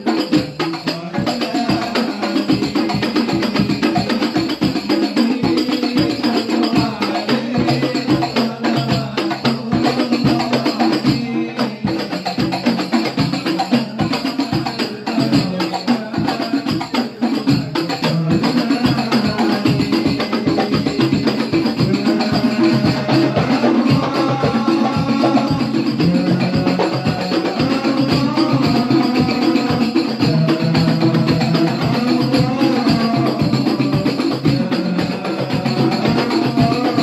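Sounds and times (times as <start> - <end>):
goblet drums in fast rhythm: 0.0 - 37.0.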